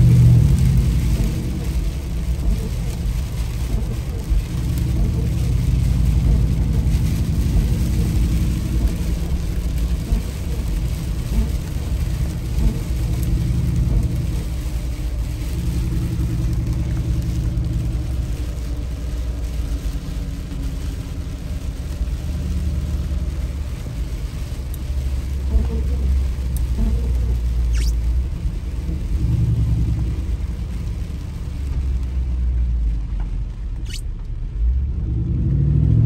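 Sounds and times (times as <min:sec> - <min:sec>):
engine drone inside car: 0:00.0 - 0:36.0
rain and wet road hiss: 0:00.0 - 0:36.0.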